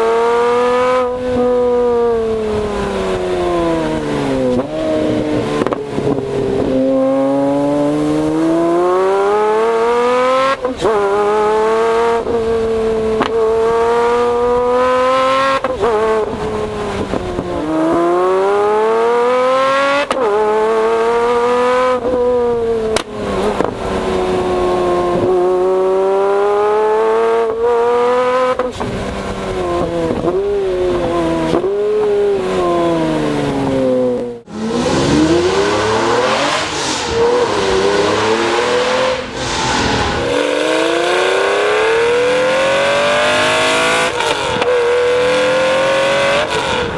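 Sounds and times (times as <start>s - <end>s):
sports car exhaust accelerating: 0.0s - 46.9s.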